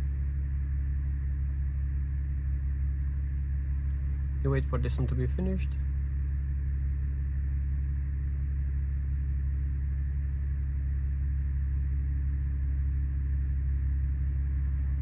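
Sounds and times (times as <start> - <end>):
car engine idling from inside cabin: 0.0 - 15.0.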